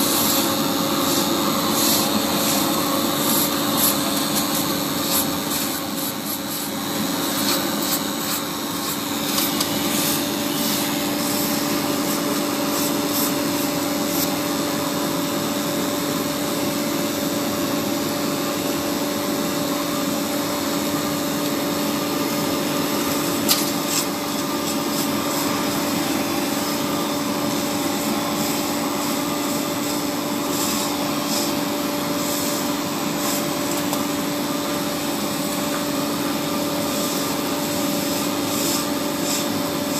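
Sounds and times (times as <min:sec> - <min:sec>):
welding machine humming: 0:00.0 - 0:39.9.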